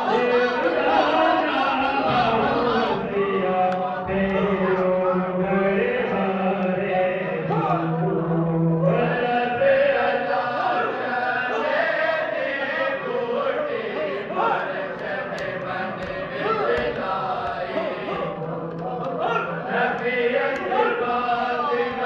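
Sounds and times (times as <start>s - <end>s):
men chanting together: 0.0s - 22.0s.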